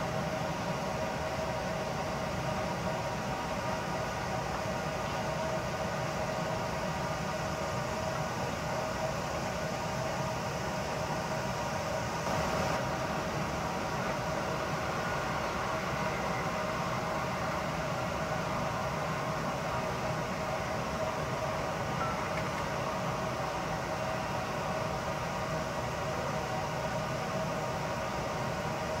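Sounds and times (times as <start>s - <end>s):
constant hum: 0.0s - 29.0s
distant electric trains rumbling: 0.0s - 29.0s.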